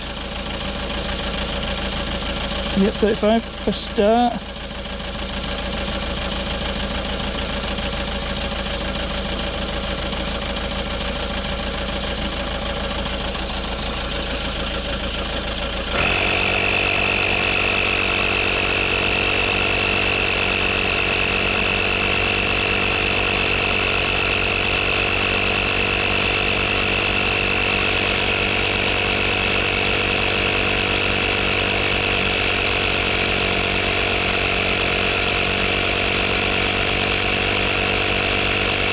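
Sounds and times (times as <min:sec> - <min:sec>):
car engine idling: 0:00.0 - 0:38.9
tyre inflator compressor whining: 0:00.0 - 0:38.9.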